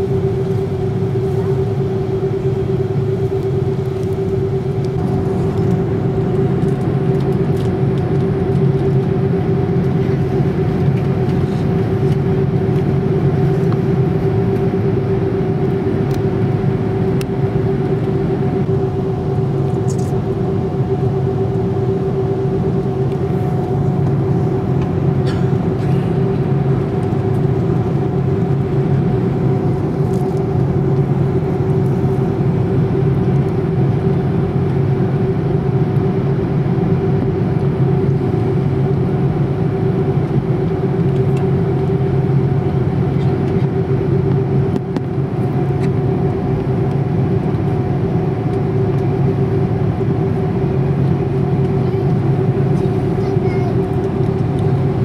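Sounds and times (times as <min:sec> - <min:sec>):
jet engines idling in cabin: 0:00.0 - 0:55.0.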